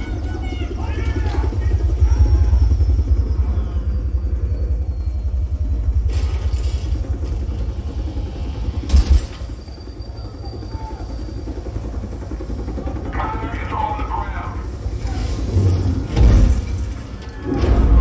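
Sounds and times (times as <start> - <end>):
action film soundtrack rumble: 0.0 - 18.0.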